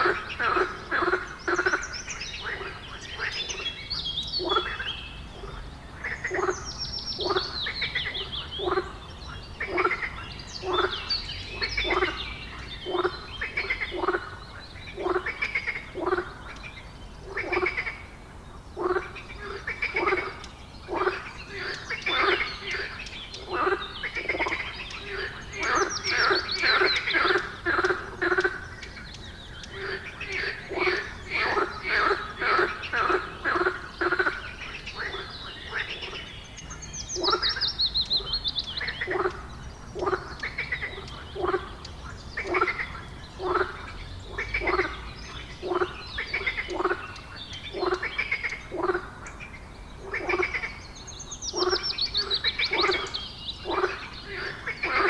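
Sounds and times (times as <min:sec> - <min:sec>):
birds chirping: 0:00.0 - 0:55.0
frogs croaking: 0:00.0 - 0:55.0.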